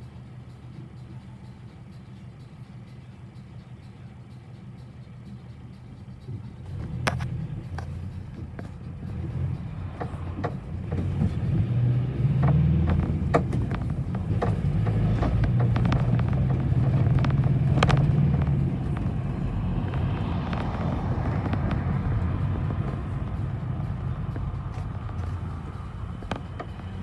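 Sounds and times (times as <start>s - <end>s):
bus engine hum: 0.0s - 27.0s
interior rattles and clicks: 1.8s - 27.0s.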